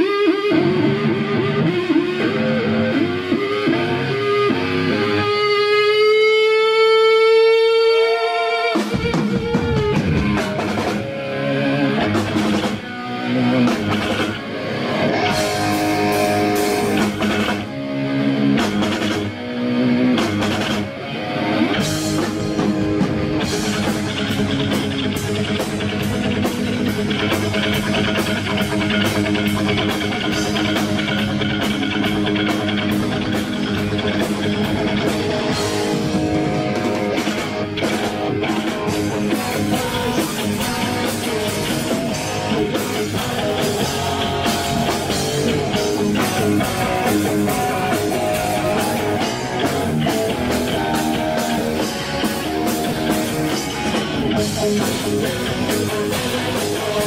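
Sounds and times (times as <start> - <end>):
electric guitar riffs: 0.0 - 57.0
drum kit: 8.6 - 57.0.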